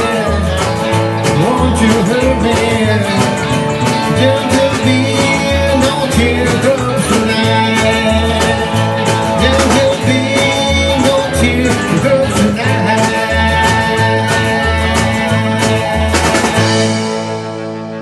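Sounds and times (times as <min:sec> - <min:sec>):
drum kit: 0:00.0 - 0:18.0
electric guitar: 0:00.0 - 0:18.0
harmonica: 0:00.0 - 0:18.0
strummed acoustic guitar: 0:00.0 - 0:18.0
upright bass: 0:00.0 - 0:18.0.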